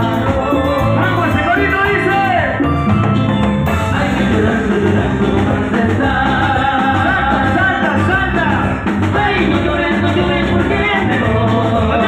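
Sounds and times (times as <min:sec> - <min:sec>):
man singing: 0:00.0 - 0:02.7, 0:03.7 - 0:12.0
drums and congas: 0:00.0 - 0:12.0
latin dance band playing: 0:00.0 - 0:12.0.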